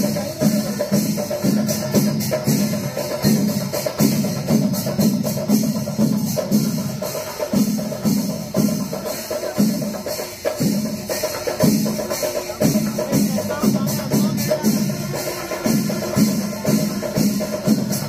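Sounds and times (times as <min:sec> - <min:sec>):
drums and cymbals playing: 0:00.0 - 0:18.0.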